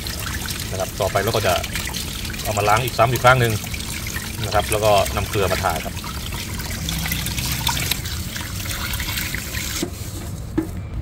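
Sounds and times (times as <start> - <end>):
tap water splashing in sink: 0.0 - 10.0.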